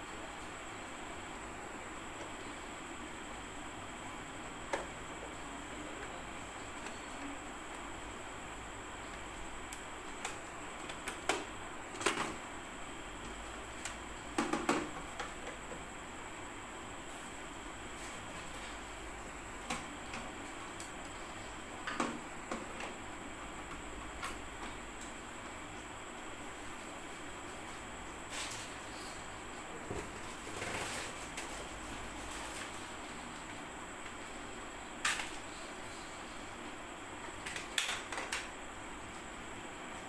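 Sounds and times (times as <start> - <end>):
steady hiss: 0.0 - 40.0.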